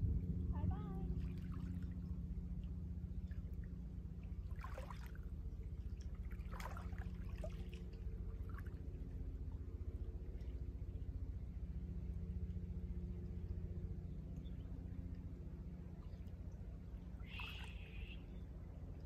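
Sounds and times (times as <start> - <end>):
steady low hum: 0.0 - 19.0
lake water lapping: 0.8 - 19.0.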